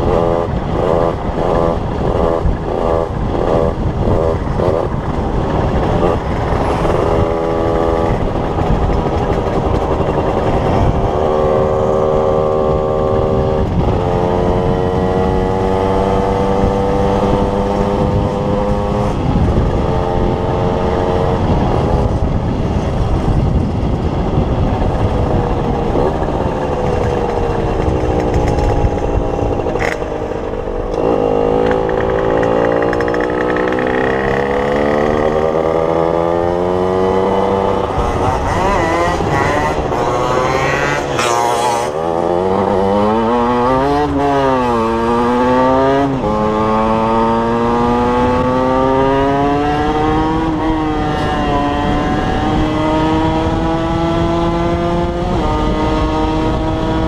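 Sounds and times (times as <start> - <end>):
motorcycle two-stroke engine revving: 0.0 - 57.0.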